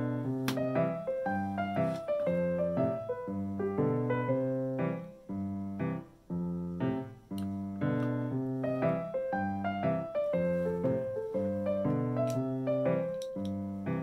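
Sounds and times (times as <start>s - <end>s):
light piano music: 0.0s - 14.0s.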